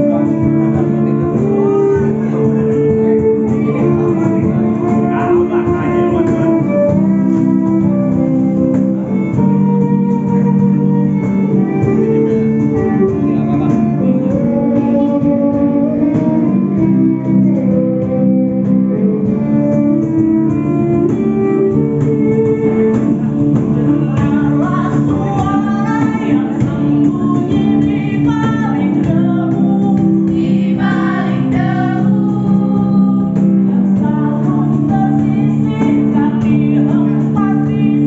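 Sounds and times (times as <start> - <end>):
guitar playing chords and melody: 0.0 - 38.0.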